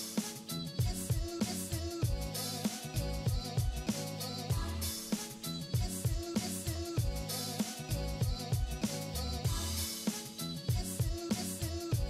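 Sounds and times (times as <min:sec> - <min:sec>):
instrumental music with drum beat: 0:00.0 - 0:12.0.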